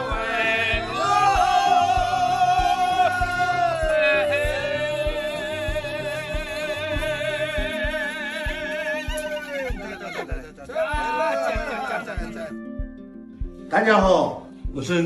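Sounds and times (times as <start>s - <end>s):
person singing with vibrato: 0.0s - 12.5s
steady beat: 0.0s - 15.0s.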